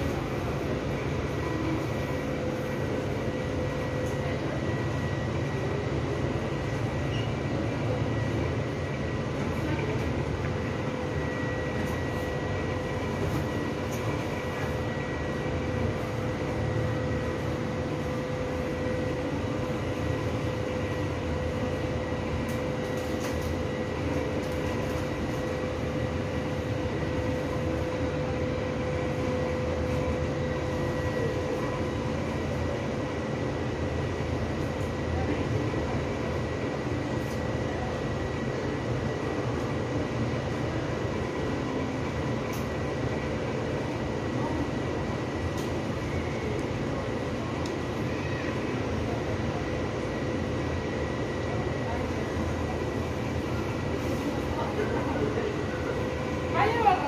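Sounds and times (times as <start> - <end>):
steady machine hum: 0.0 - 57.0.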